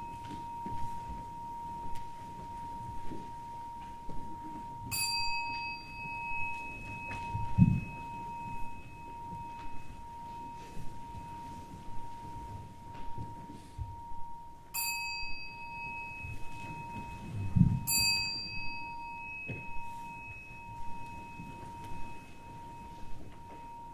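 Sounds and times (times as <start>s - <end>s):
bell ringing: 0.0s - 23.9s
soft low thuds: 0.0s - 23.9s.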